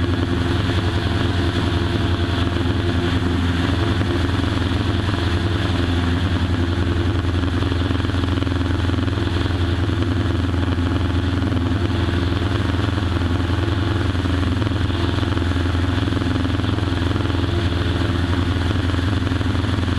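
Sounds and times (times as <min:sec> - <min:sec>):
propeller aircraft engine running: 0:00.0 - 0:19.9.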